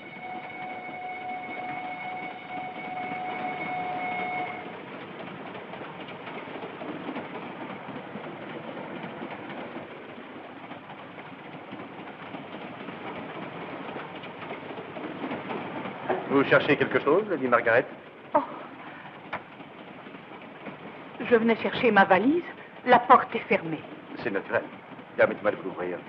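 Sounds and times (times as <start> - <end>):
train carriage rattling on rails: 0.0 - 26.0.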